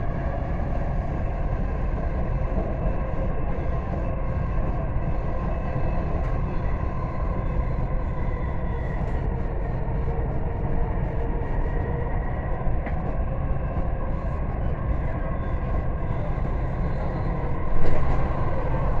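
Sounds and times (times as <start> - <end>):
faint steady whine: 0.0 - 19.0
train wheels rumbling on rail: 0.0 - 19.0.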